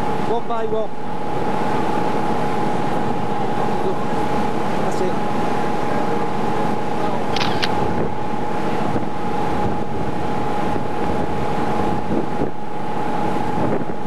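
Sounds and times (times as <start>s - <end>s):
low rumble of boat: 0.0s - 14.0s
thin steady whine: 0.0s - 14.0s
wind buffeting microphone: 0.0s - 14.0s.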